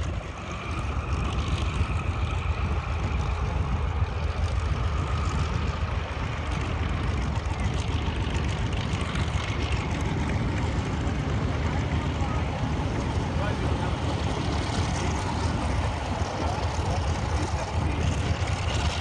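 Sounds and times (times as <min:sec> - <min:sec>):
propeller aircraft engine droning: 0:00.0 - 0:19.0.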